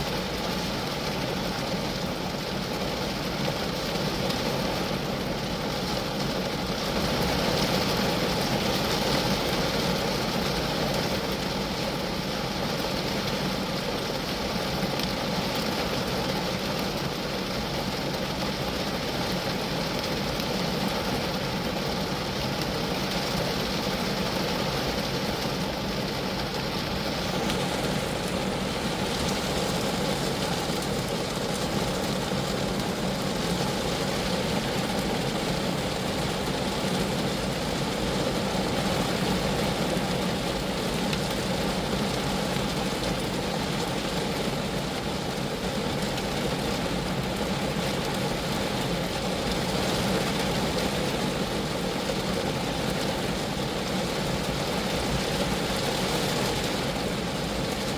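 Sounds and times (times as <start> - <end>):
rain on car metal and glass: 0.0 - 57.9.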